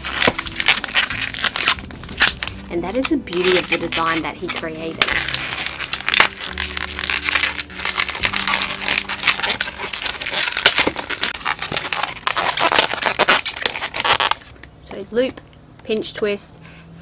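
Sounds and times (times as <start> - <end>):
balloons squeaking and crinkling: 0.0 - 14.6.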